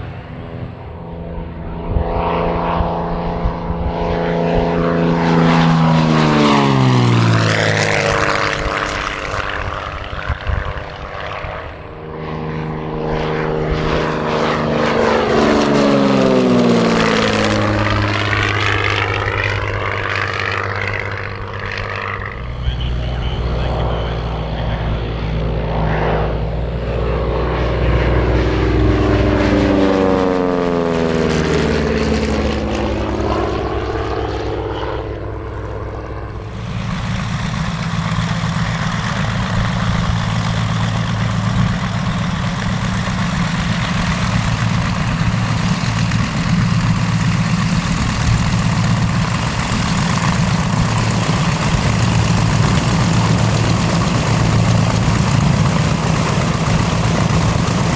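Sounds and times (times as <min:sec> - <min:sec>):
propeller plane passing by: 0:00.0 - 0:57.9
twin propeller engines droning: 0:00.0 - 0:57.9.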